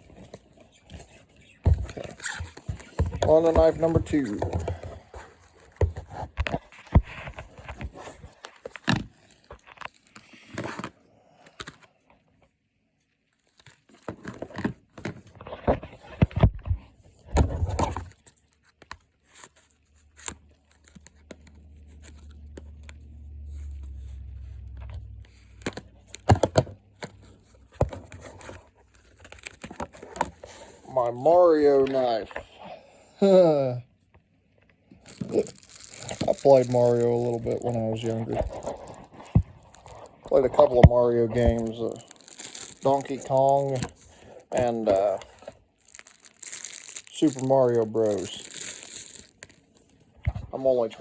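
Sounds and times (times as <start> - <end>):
packaging rustling and tearing: 0.0 - 11.9, 17.5 - 23.0, 23.6 - 32.5, 35.0 - 51.0.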